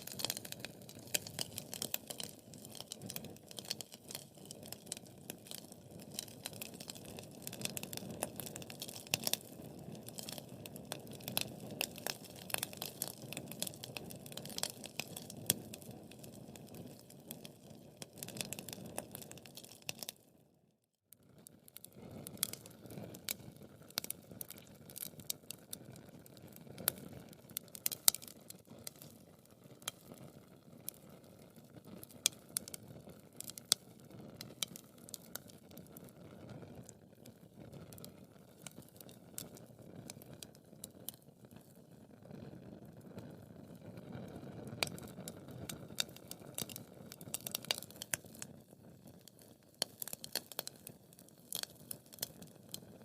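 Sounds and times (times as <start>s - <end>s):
wood fire crackling and popping: 0.0s - 20.3s, 21.1s - 53.0s.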